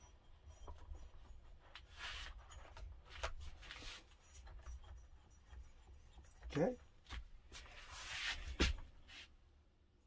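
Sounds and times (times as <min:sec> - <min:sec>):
soft rustling scrapes: 0:00.0 - 0:09.4.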